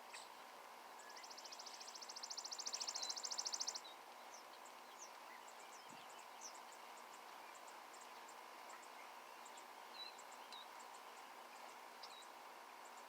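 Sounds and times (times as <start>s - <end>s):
songbird high-pitched trill: 1.0s - 13.0s.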